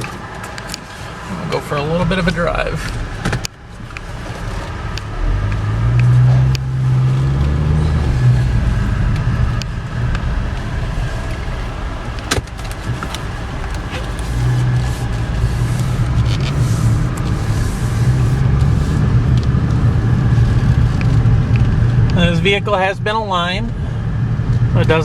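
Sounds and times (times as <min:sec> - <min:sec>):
car engine accelerating: 0:00.0 - 0:25.0
road noise: 0:00.0 - 0:25.0.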